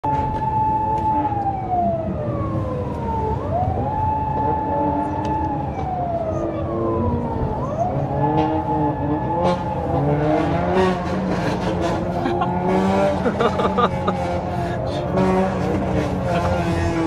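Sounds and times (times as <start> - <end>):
car engines and road noise: 0.0 - 17.0
police siren wailing: 0.0 - 17.0.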